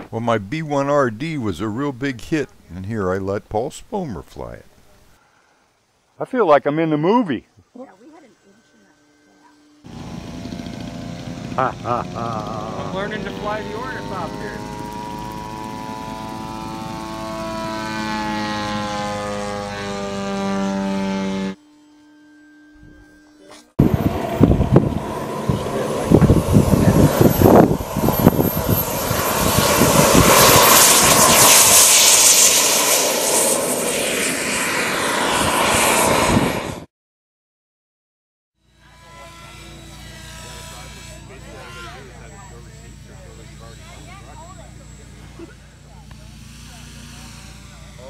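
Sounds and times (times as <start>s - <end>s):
model aircraft motor whine: 7.7s - 36.9s, 38.6s - 48.0s.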